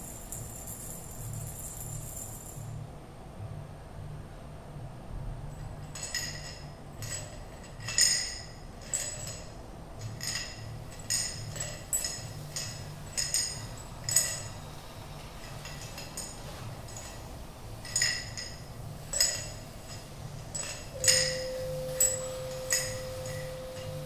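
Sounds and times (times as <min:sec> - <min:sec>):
percussion objects clinking: 0:00.0 - 0:02.8, 0:05.6 - 0:24.0
low steady hum: 0:00.0 - 0:24.0.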